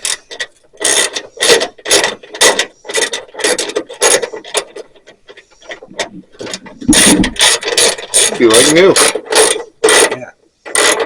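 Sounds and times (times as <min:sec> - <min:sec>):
ratchet wrench rasping: 0:00.0 - 0:05.0, 0:05.6 - 0:11.0.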